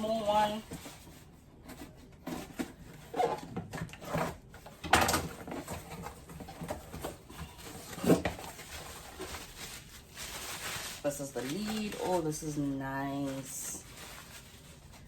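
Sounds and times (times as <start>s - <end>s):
packaging rustling: 0.0s - 15.0s.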